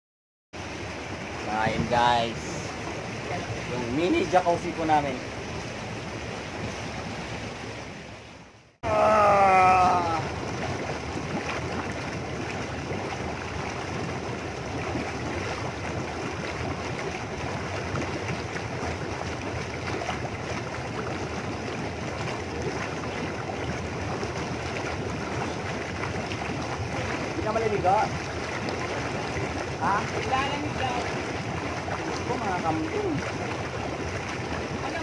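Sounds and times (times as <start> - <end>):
jacuzzi jets bubbling water: 0.6 - 35.0.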